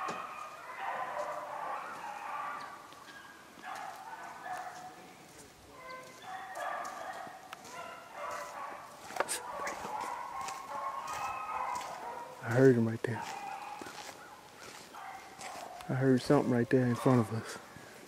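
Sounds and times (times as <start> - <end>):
beagles baying in chorus: 0.0 - 18.0.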